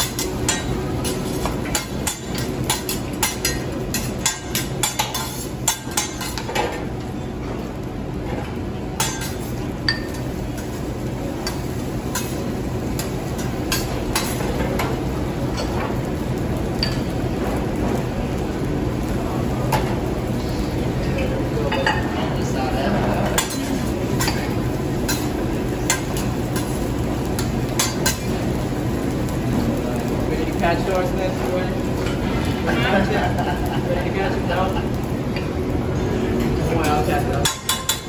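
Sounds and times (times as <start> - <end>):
steady hum: 0.0 - 38.0.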